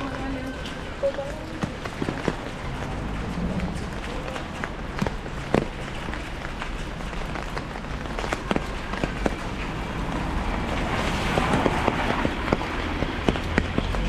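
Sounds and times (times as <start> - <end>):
raindrops tapping on umbrella: 0.0 - 14.0.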